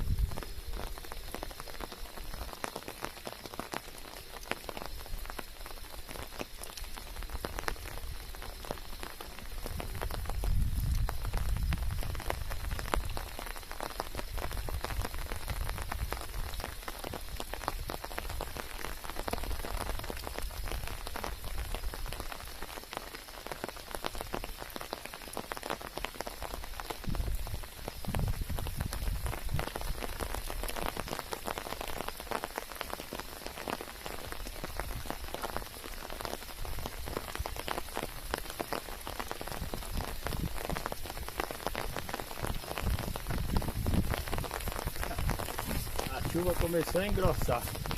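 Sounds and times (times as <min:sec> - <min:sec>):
rain patter: 0:00.0 - 0:47.9.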